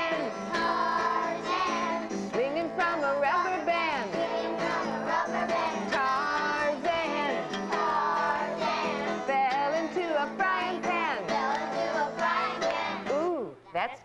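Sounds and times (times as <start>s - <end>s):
woman and children singing: 0.0s - 13.5s
acoustic guitar: 0.0s - 13.6s.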